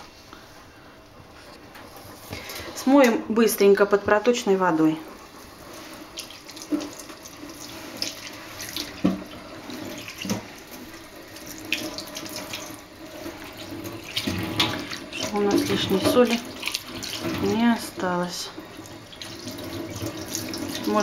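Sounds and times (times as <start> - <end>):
tap water running into sink: 4.0 - 21.0.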